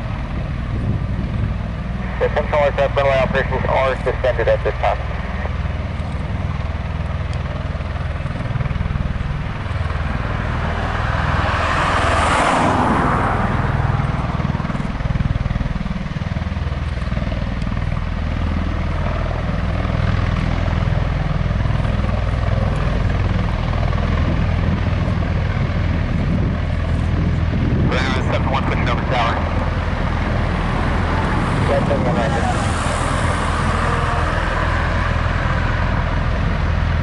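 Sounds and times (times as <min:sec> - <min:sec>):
rushing engine noise: 0:00.0 - 0:37.0.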